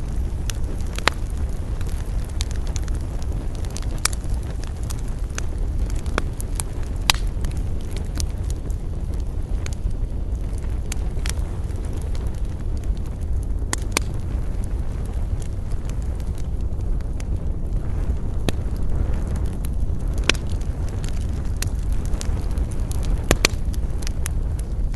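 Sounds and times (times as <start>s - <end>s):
campfire crackling: 0.0s - 24.9s.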